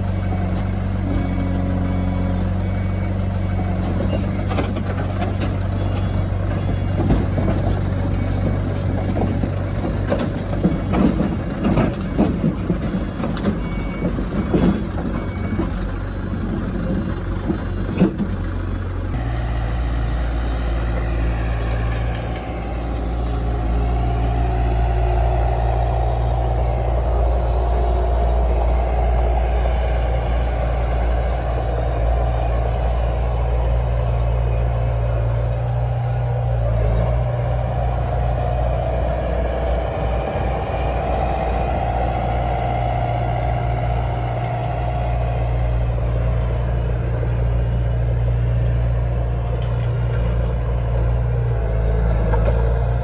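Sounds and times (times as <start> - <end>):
steady engine drone: 0.0 - 15.7, 16.4 - 53.0
diesel earthmoving machinery: 0.0 - 53.0.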